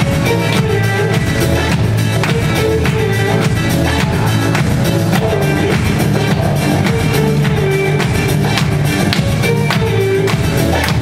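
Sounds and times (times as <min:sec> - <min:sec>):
belly dance music: 0:00.0 - 0:11.0
steady drum beat: 0:00.0 - 0:11.0.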